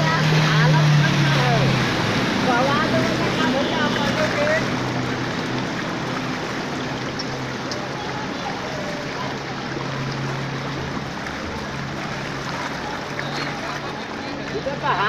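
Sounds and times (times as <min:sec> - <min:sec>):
floodwater rushing: 0:00.0 - 0:15.0
low engine hum: 0:00.0 - 0:15.0.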